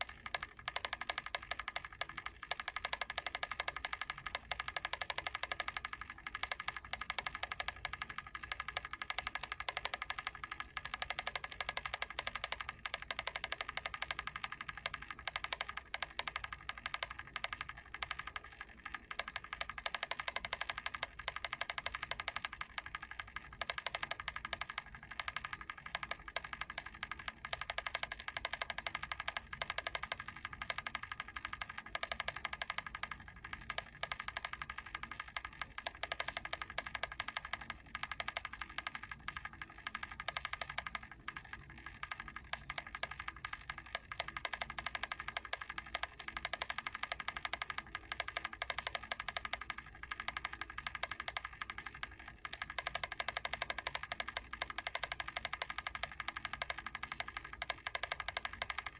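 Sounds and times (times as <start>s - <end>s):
mechanical timer ticking: 0.0s - 58.9s.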